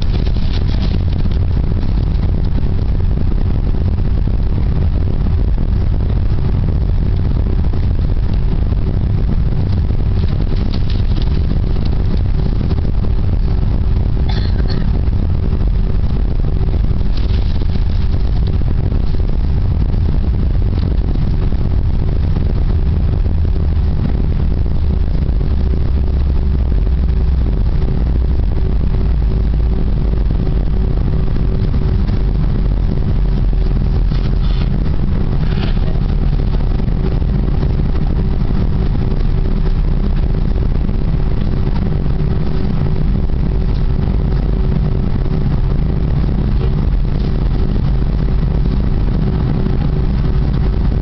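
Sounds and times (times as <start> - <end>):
deep rumble: 0.0 - 51.0
jet engines humming: 0.0 - 51.0.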